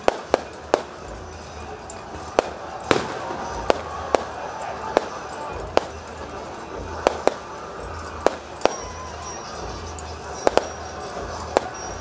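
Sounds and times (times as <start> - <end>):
low rumbling music: 0.0 - 12.0
pyrotechnic cracks: 0.0 - 12.0.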